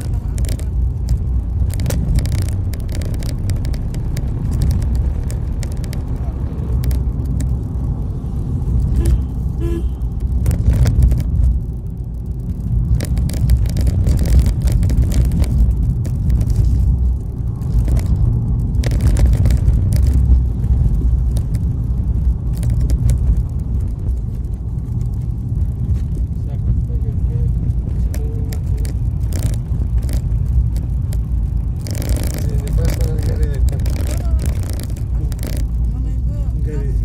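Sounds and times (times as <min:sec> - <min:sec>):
rattles and knocks: 0:00.0 - 0:07.7, 0:10.1 - 0:26.8, 0:27.5 - 0:36.0
road and engine rumble: 0:00.0 - 0:37.0.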